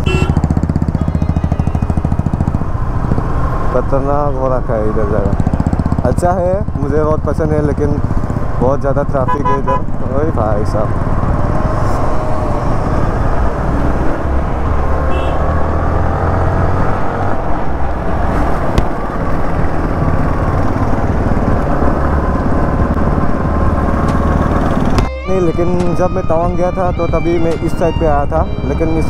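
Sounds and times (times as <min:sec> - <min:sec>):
motorcycle engine running: 0:00.0 - 0:25.1
wind and road noise rumble: 0:00.0 - 0:29.0.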